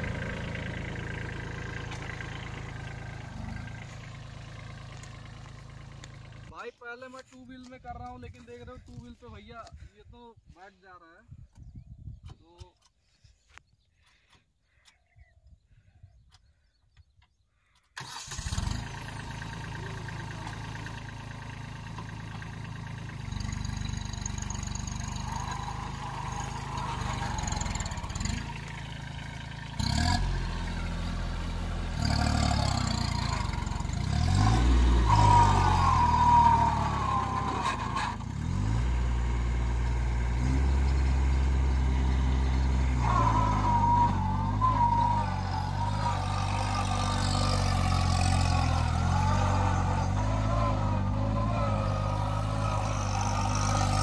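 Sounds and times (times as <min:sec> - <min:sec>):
diesel tractor engine under load: 0:00.0 - 0:09.9, 0:16.0 - 0:54.0.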